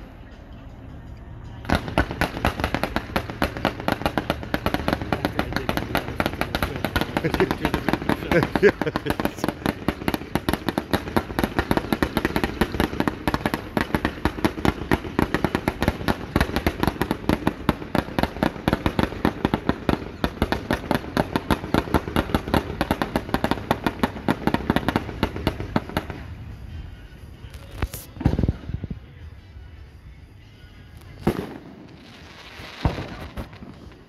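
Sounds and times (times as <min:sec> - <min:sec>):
fireworks popping and crackling: 0:01.6 - 0:29.2, 0:30.8 - 0:34.0.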